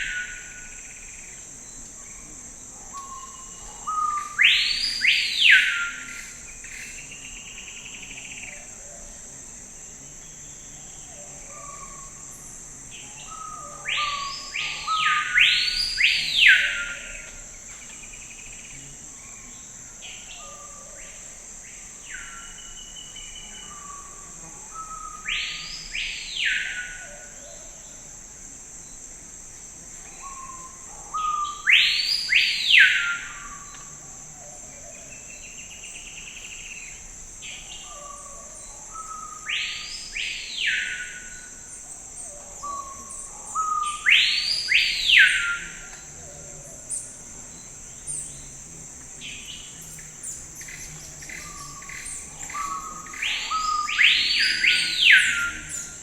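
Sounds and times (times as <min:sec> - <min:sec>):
songbird singing: 0:00.0 - 0:28.1, 0:28.8 - 0:56.0
high-pitched insect drone: 0:00.0 - 0:56.0.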